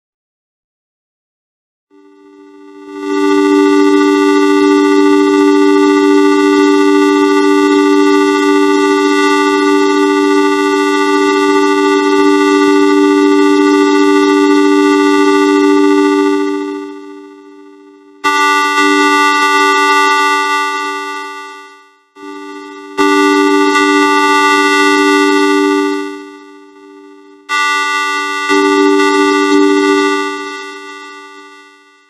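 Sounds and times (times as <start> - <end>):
electronic chord drone: 2.8 - 31.8.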